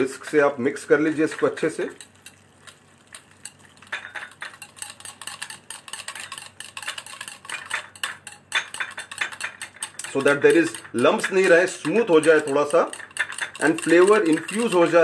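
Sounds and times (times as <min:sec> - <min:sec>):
whisk clinking in steel bowl: 0:01.0 - 0:15.0.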